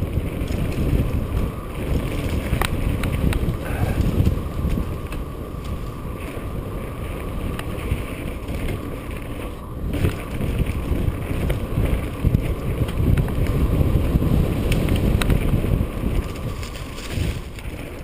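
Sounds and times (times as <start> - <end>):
bike clicks and rattles: 0.0 - 18.0
tyres rumbling on dirt trail: 0.0 - 18.0
wind buffeting microphone: 0.0 - 18.0.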